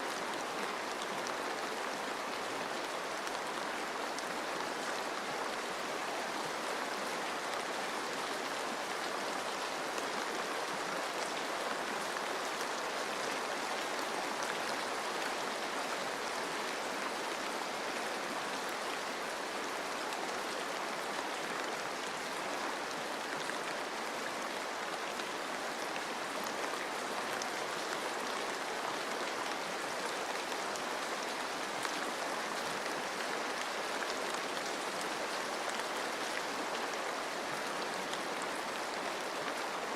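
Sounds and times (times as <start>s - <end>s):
rain falling on foliage: 0.0s - 39.9s
stream water running: 0.0s - 39.9s.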